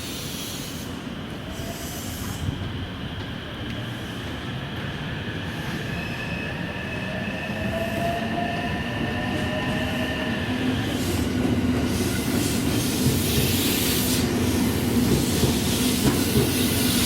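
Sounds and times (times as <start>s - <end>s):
electric train rumbling and whining: 0.0s - 17.0s.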